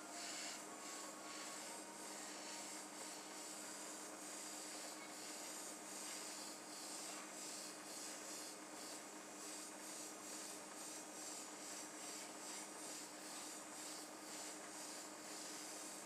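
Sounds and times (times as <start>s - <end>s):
small motor hum and pulsing hiss: 0.0s - 16.0s.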